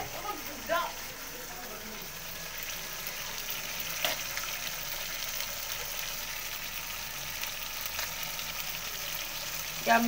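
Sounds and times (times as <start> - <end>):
gravy sizzling in oil: 0.0 - 10.0.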